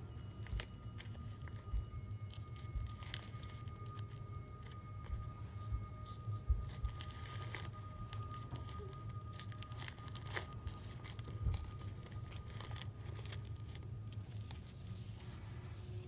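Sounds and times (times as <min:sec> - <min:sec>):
low steady hum: 0:00.0 - 0:16.0
ribbon rustling and crinkling: 0:00.0 - 0:16.0.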